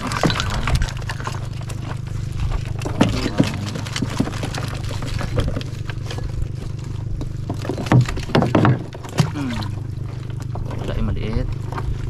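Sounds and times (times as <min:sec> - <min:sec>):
knocks and clatter: 0:00.0 - 0:12.0
small engine running: 0:00.0 - 0:12.0.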